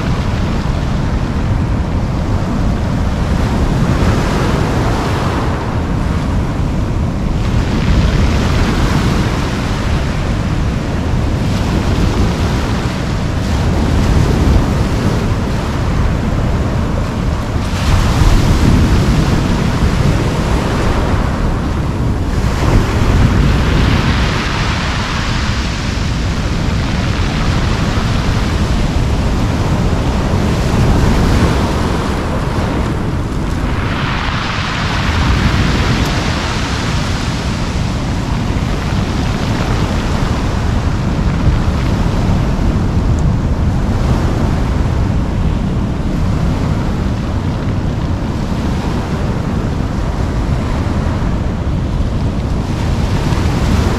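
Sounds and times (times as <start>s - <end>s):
surf breaking on pebble beach: 0.0s - 53.9s
wind rumbling on microphone: 0.0s - 53.9s.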